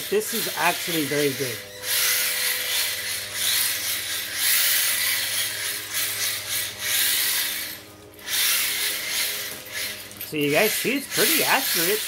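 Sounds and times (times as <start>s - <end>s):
electric motor whirring: 0.0s - 12.0s.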